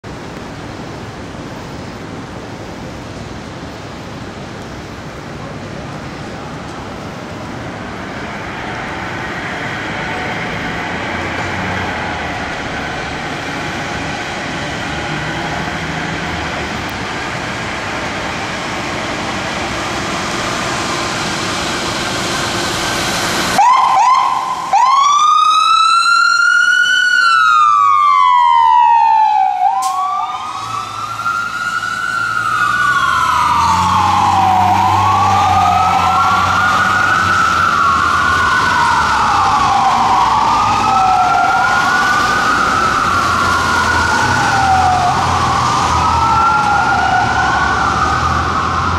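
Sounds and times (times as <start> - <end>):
truck engine and road noise: 0.0 - 48.9
fire engine siren wailing: 6.4 - 48.9.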